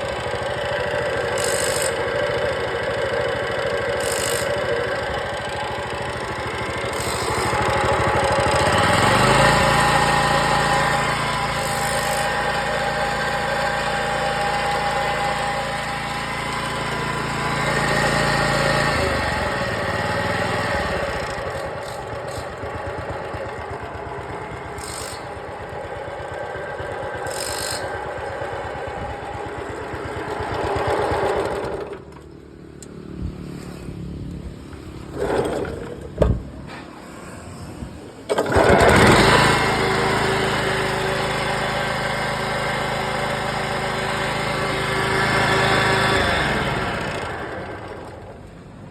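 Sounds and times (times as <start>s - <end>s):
concrete cutter engine running: 0.0s - 32.9s, 34.9s - 36.2s, 38.2s - 48.9s.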